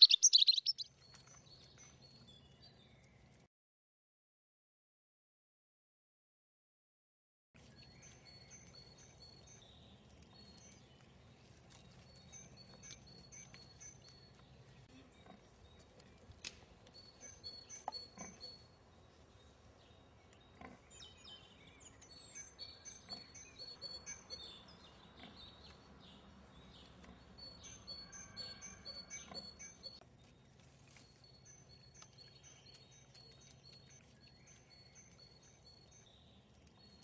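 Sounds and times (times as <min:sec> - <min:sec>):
small birds singing: 0:00.0 - 0:03.4, 0:07.6 - 0:30.6, 0:31.2 - 0:37.0.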